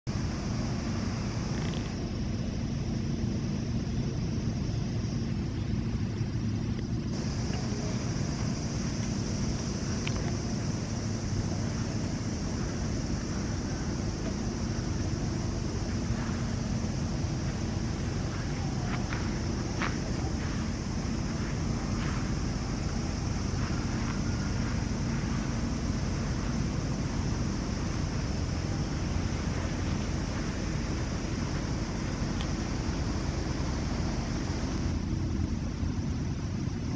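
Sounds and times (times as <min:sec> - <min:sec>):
high hiss: 0:00.1 - 0:36.9.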